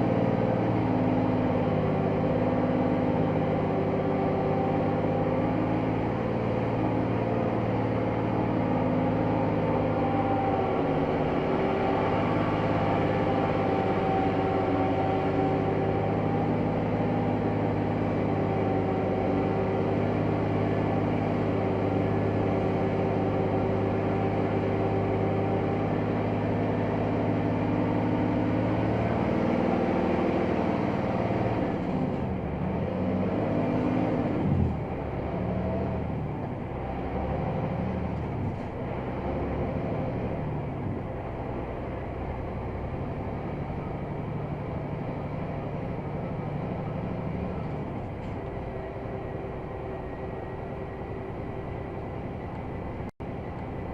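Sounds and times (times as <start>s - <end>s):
diesel truck engine under load: 0.0s - 53.9s.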